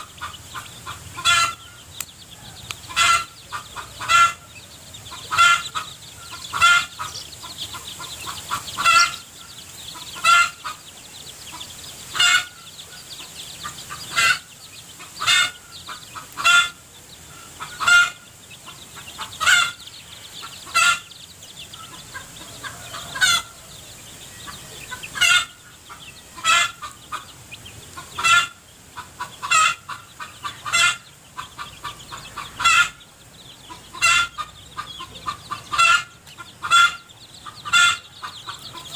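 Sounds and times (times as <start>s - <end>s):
hen clucking: 0.0s - 38.9s.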